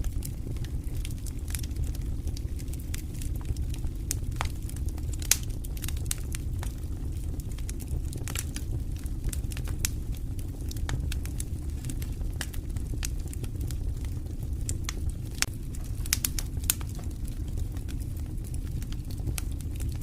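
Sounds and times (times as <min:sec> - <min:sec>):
campfire crackling and popping: 0:00.0 - 0:20.0
low rumble: 0:00.0 - 0:20.0.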